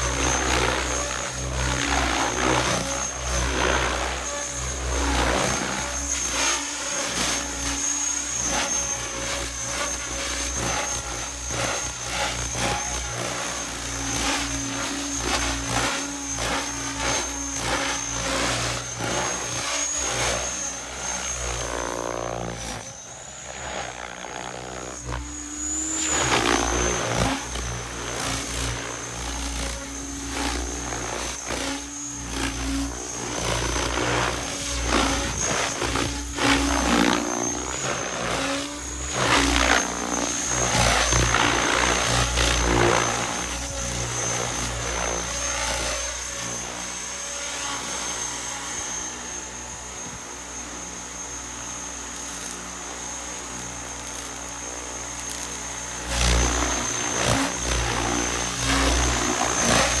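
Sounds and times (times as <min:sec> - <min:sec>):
helicopter rotor hum: 0:00.0 - 1:00.0
high motor whine: 0:00.0 - 1:00.0.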